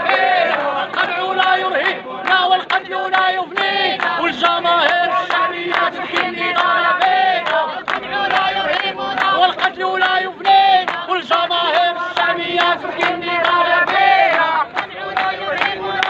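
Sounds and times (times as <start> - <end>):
crowd chanting in unison: 0.0 - 16.0
hand claps: 0.0 - 16.0.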